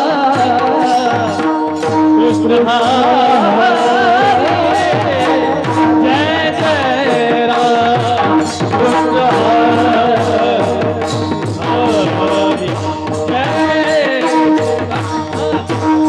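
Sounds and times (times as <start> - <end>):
person singing ornamented melody: 0.0 - 16.0
sharp rhythmic strikes: 0.0 - 16.0
drum beat: 0.4 - 16.0.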